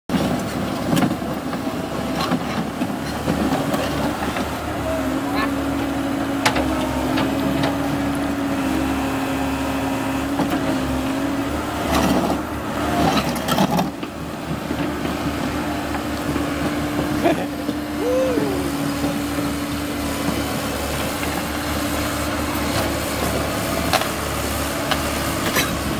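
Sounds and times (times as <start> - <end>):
excavator diesel engine running: 0.2 - 25.9.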